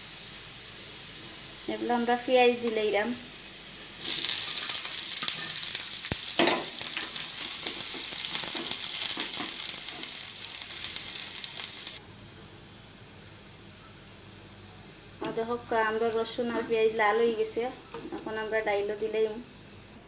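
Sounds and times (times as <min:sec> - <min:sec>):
onions sizzling in hot oil: 0:00.0 - 0:12.0, 0:12.6 - 0:19.9.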